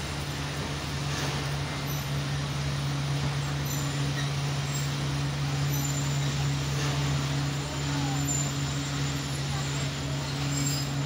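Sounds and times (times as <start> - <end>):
train engine humming: 0.0 - 11.0.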